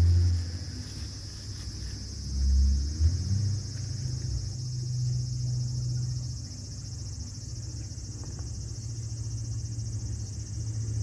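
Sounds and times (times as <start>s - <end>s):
low steady hum: 0.0s - 11.0s
night insects trilling: 0.0s - 11.0s.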